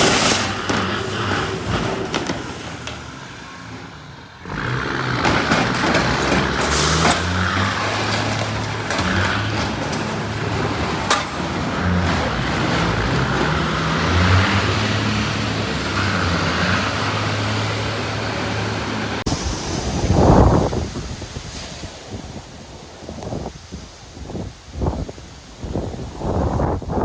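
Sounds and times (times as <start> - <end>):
traffic and road noise: 0.0 - 27.0.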